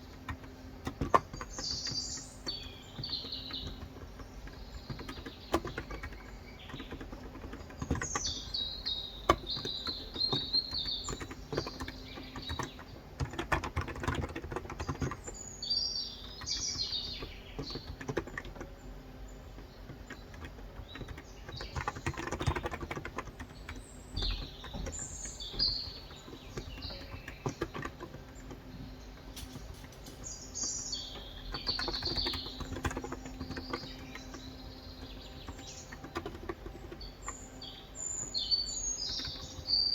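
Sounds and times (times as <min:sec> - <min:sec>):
birds chirping: 0:00.0 - 0:39.9
keyboard typing: 0:00.0 - 0:39.9.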